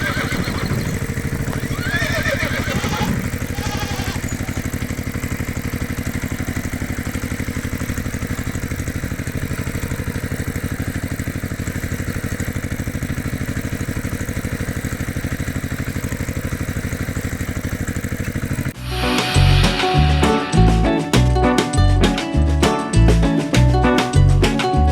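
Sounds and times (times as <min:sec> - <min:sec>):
tractor engine chugging: 0:00.0 - 0:21.4.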